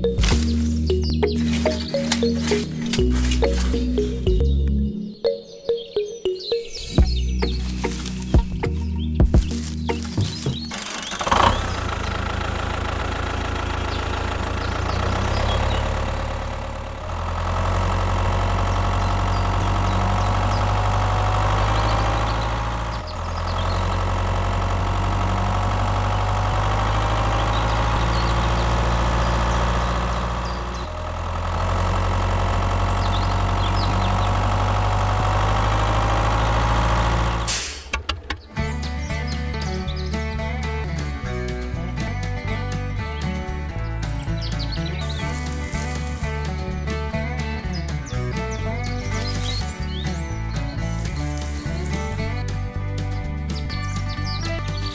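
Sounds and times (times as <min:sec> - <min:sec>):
engine idling: 0:00.0 - 0:04.9, 0:07.0 - 0:54.9.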